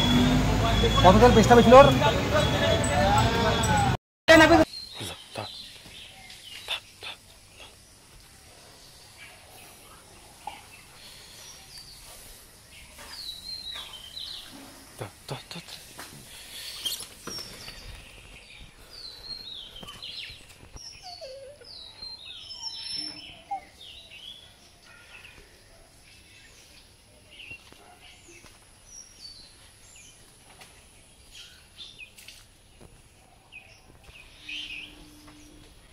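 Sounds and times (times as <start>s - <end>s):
small birds chirping: 0.6s - 35.9s.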